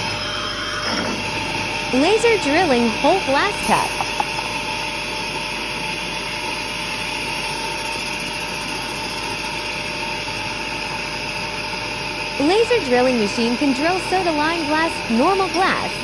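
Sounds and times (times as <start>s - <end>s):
drilling machine whirring: 0.0s - 16.0s.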